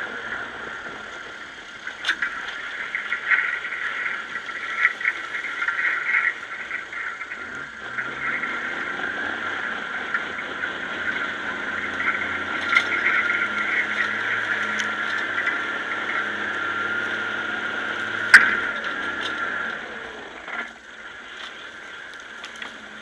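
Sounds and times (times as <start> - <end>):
snow groomer engine: 0.0 - 23.0
snow groomer track squeal: 0.0 - 23.0.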